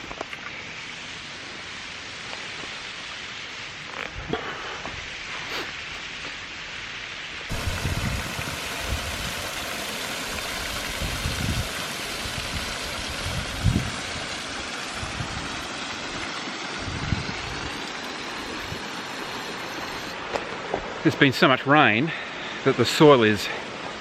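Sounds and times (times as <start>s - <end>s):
water rushing over rocks: 1.6s - 24.0s.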